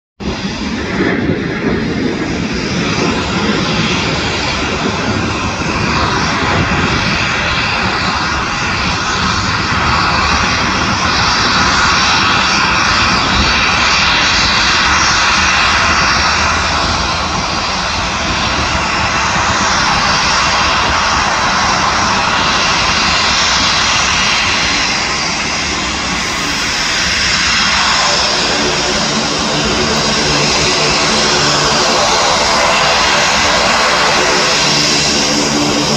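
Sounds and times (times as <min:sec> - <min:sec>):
turboprop engines whining: 0:00.2 - 0:35.9.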